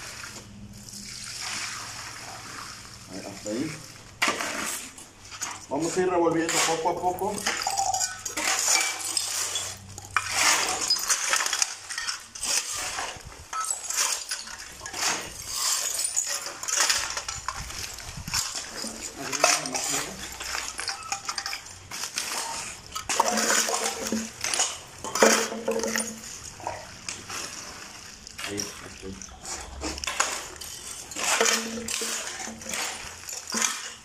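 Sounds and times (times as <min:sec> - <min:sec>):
shovels scraping on concrete: 0:00.0 - 0:34.0
clinking cans and glass bottles: 0:03.5 - 0:34.0.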